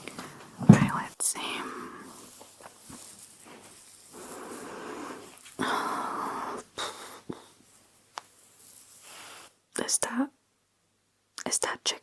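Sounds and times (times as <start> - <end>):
breathy rustling noise: 0.0 - 9.7.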